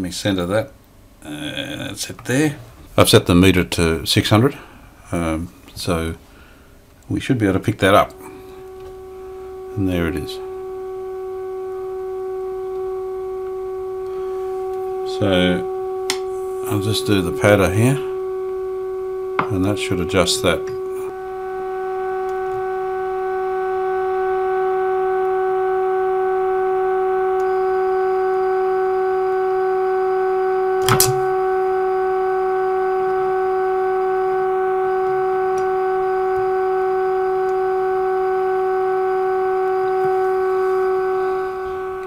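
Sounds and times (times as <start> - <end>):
steady test tone from radio speaker: 0.0 - 42.0.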